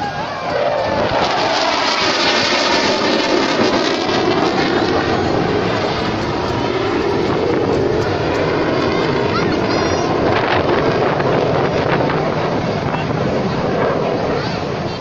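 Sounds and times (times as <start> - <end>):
jet fighter roaring overhead: 0.0 - 15.0.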